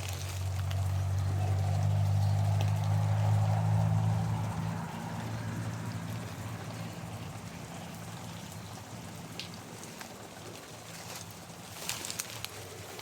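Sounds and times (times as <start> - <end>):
sprinkler water spray pattering: 0.0 - 13.0.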